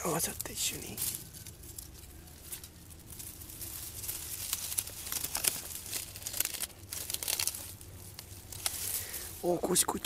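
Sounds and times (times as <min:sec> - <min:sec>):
dry leaves rustling and crackling: 0:00.0 - 0:10.0.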